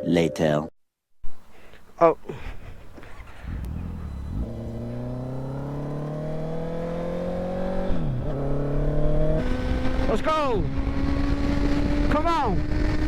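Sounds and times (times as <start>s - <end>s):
motorcycle engine accelerating: 1.3s - 13.0s.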